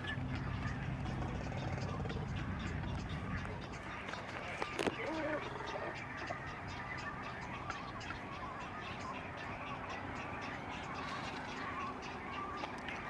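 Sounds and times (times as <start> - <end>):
birds chirping: 0.0 - 13.0
geese calling in distance: 0.0 - 13.0.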